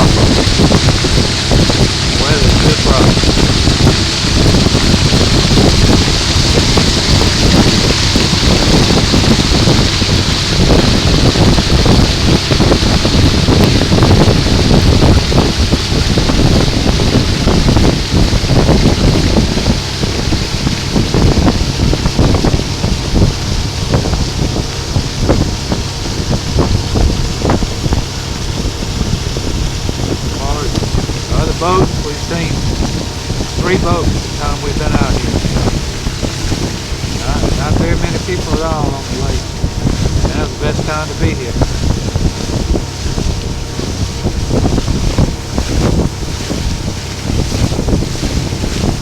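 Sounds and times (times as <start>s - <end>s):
motorboat rumbling: 0.0s - 49.0s
water rushing along hull: 0.0s - 49.0s
wind buffeting microphone: 0.0s - 49.0s.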